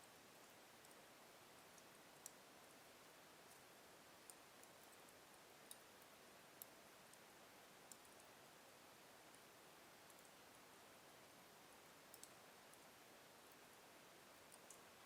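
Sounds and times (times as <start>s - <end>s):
soft fire hiss: 0.0s - 15.0s.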